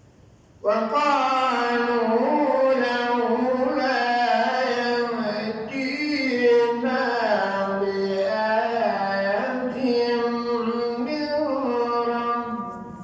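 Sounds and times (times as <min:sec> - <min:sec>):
man chanting melodic recitation: 0:00.6 - 0:13.0.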